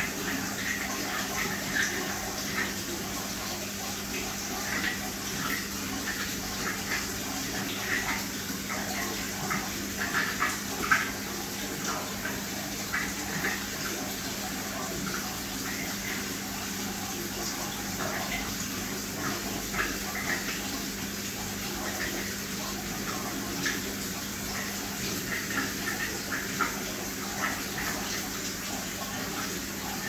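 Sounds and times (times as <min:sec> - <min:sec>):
water trickling and splashing: 0:00.0 - 0:30.0.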